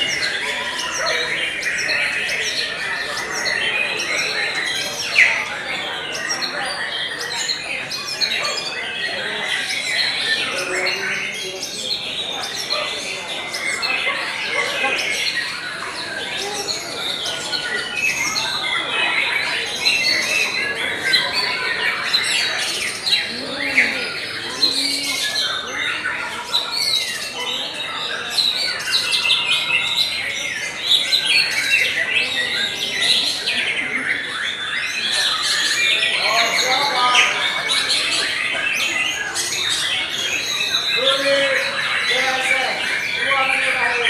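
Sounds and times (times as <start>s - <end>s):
birds singing chorus: 0.0s - 44.0s.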